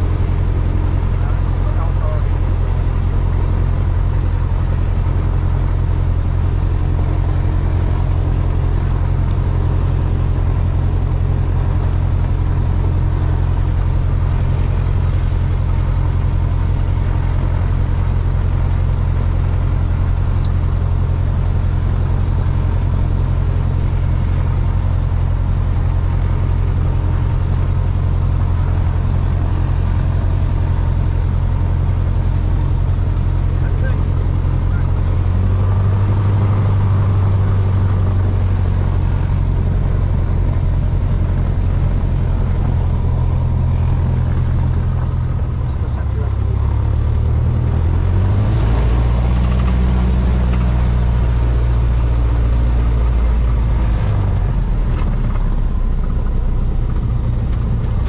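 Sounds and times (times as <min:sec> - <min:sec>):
light aircraft engine idling: 0:00.0 - 0:58.0.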